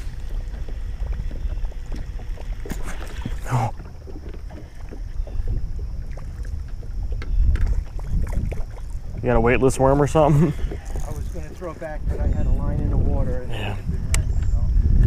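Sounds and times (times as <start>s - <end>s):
water lapping against boat hull: 0.0s - 15.0s
wind rumbling on microphone: 0.0s - 15.0s.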